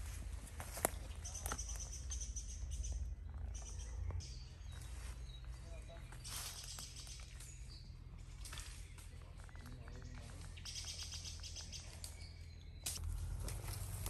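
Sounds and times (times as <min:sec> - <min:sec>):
birds singing and chirping: 0:00.0 - 0:14.0
bird trill: 0:00.8 - 0:13.0.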